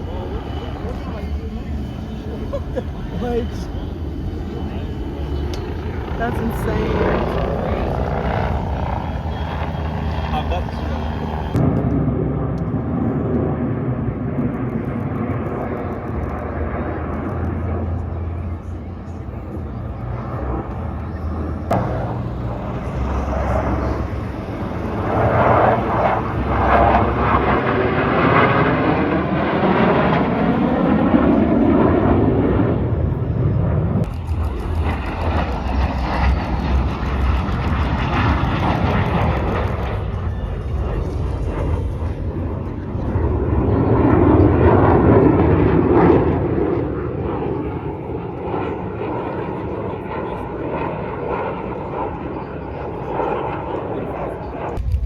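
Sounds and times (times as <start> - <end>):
airplane engine flying past: 0.0 - 55.0.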